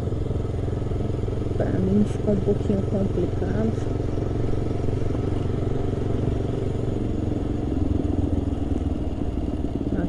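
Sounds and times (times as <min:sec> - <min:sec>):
motorcycle engine running: 0:00.0 - 0:10.0
wind and road noise: 0:00.0 - 0:10.0.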